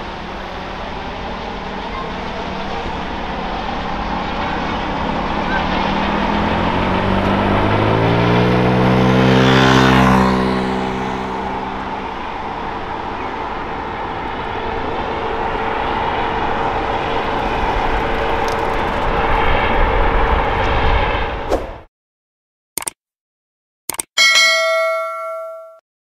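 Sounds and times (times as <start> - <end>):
helicopter flying: 0.0 - 21.5.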